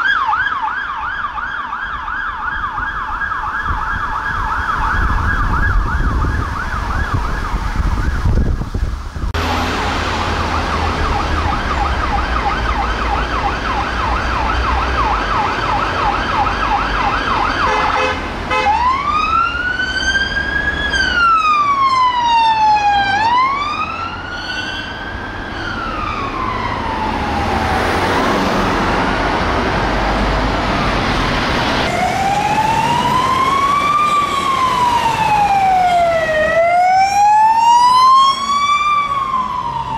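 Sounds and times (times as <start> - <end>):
second siren wailing: 0.0 - 8.8, 9.4 - 29.4, 31.8 - 39.9
police siren yelp and wail: 0.0 - 39.9
traffic noise: 0.0 - 39.9.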